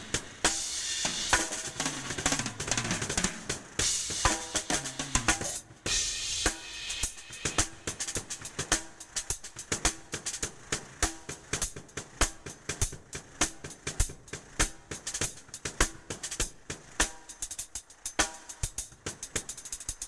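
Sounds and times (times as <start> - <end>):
drum kit solo: 0.0 - 20.0.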